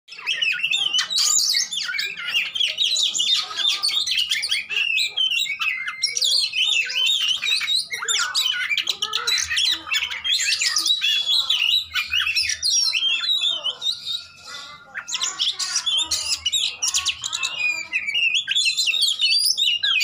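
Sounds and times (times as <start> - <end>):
magpie-robin singing: 0.1 - 20.0.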